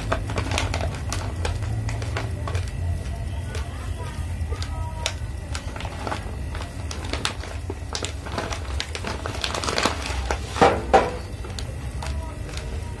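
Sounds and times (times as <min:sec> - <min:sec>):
plastic bag of rice crinkling: 0:00.0 - 0:13.0.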